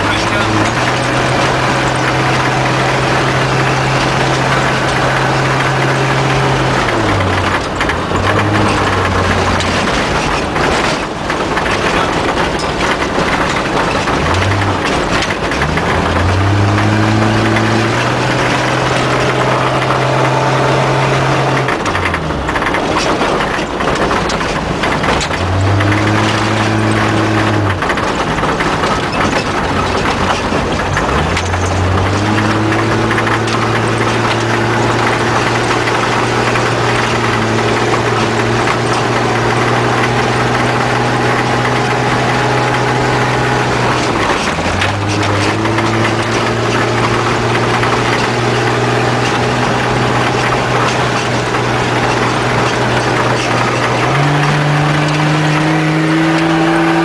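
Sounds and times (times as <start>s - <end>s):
cabin rattling: 0.0s - 57.0s
knocks from rough ground: 0.0s - 57.0s
vehicle engine from inside cab: 0.0s - 57.0s.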